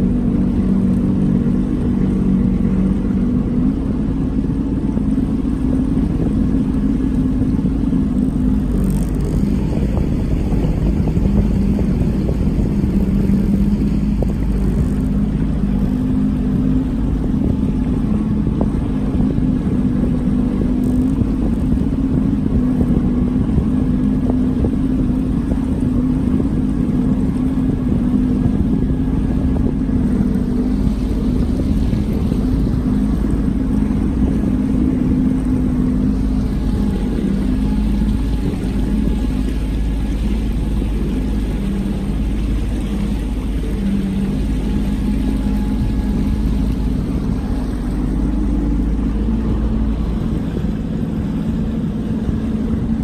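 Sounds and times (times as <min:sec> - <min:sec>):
boat motor humming: 0:00.0 - 0:53.0.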